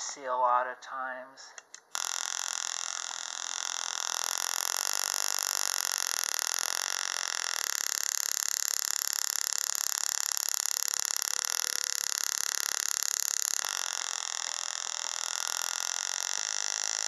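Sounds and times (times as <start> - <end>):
tesla coil hissing and crackling: 1.9 - 17.0.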